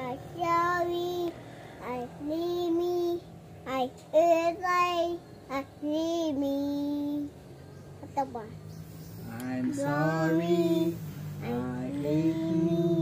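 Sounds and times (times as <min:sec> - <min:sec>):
young child singing: 0:00.0 - 0:07.3, 0:09.4 - 0:13.0.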